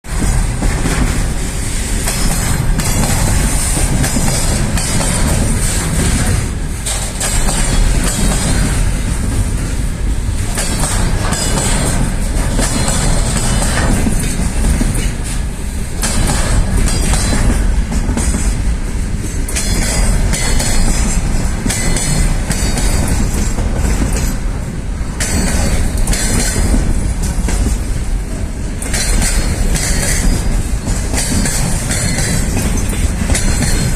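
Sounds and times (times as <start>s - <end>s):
freight train wheels clattering: 0.0s - 33.9s.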